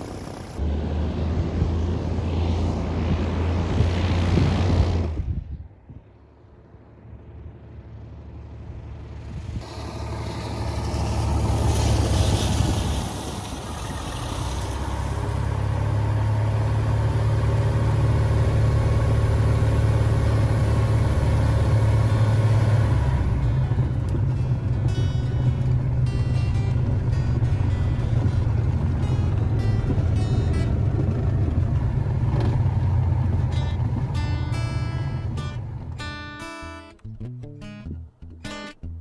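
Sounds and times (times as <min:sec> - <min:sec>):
aircraft engine and propeller: 0:00.0 - 0:36.6.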